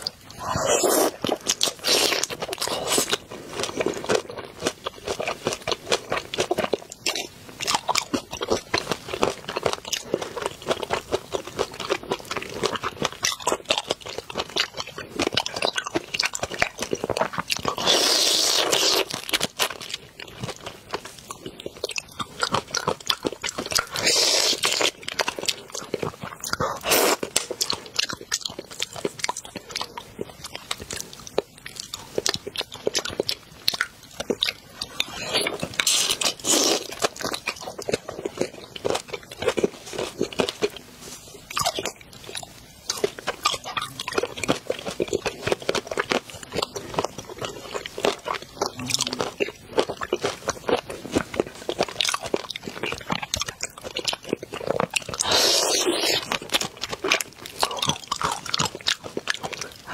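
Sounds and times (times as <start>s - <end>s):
crunching and wet chewing: 0.0s - 59.9s.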